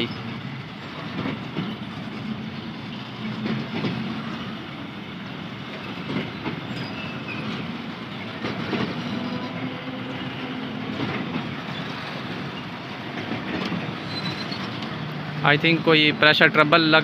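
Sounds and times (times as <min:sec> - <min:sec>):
train rumbling: 0:00.0 - 0:17.0
train wheels knocking on rail joints: 0:00.2 - 0:04.6, 0:05.2 - 0:15.4.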